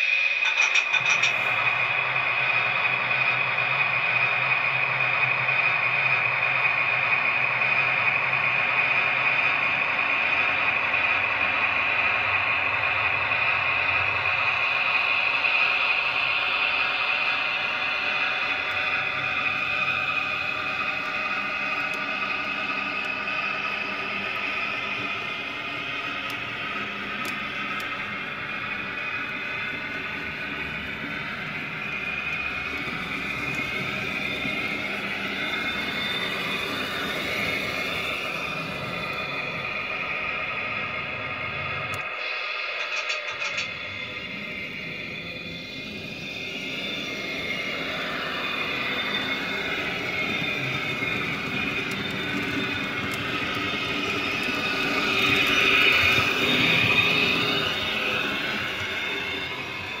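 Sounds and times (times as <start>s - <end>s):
model train wheels rolling on track: 0.0s - 60.0s.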